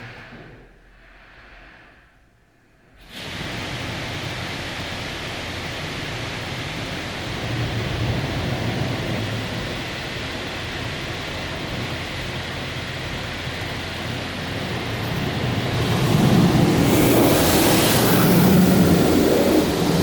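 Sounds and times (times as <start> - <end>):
car wash pump: 3.0 - 20.0
car wash water jets spraying: 3.0 - 20.0.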